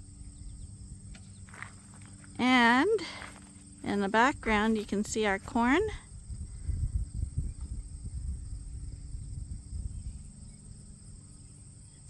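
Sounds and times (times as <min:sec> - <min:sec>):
insect chorus: 0:00.0 - 0:12.0
low uneven rumble: 0:00.0 - 0:12.0.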